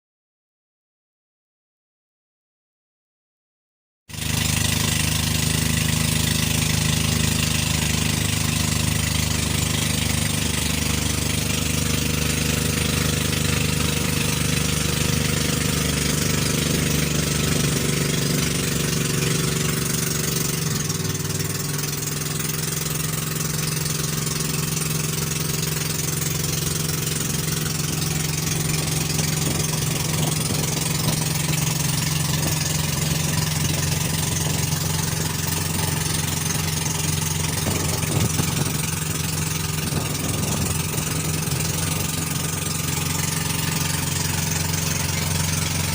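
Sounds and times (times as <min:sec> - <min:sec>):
boat engine running: 0:04.1 - 0:45.9.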